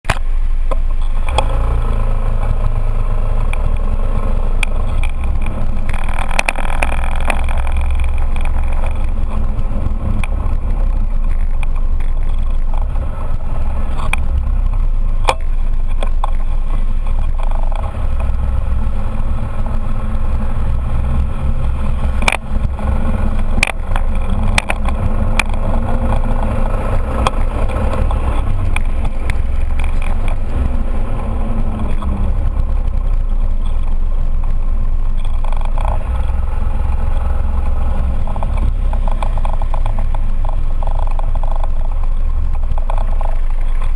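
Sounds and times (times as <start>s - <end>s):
scooter engine running: 0.0s - 43.9s
wind on microphone: 0.7s - 43.9s.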